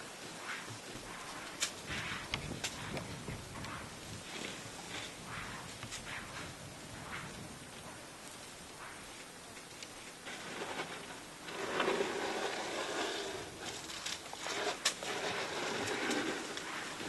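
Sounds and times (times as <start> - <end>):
bark and foliage rustling: 0.0 - 17.0.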